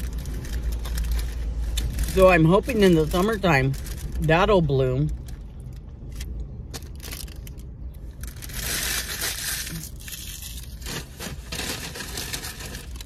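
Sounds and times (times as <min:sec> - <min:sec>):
paper wrappers crinkling: 0:00.0 - 0:04.3, 0:06.8 - 0:13.0.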